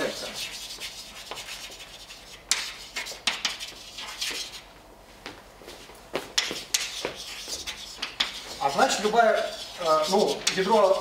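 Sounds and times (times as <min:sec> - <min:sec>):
chalk tapping and scratching: 0:00.0 - 0:04.7, 0:06.2 - 0:11.0.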